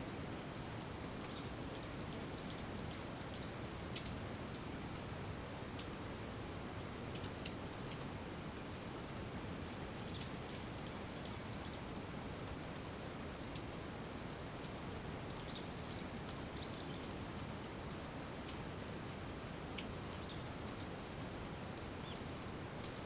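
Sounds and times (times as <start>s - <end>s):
raindrops ticking on surfaces: 0.0s - 23.0s
steady rain falling: 0.0s - 23.0s.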